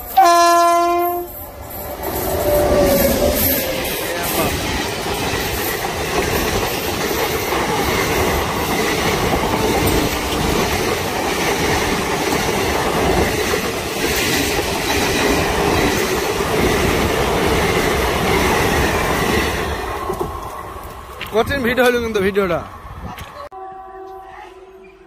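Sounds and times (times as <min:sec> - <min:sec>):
train passing at speed: 0:00.0 - 0:25.0.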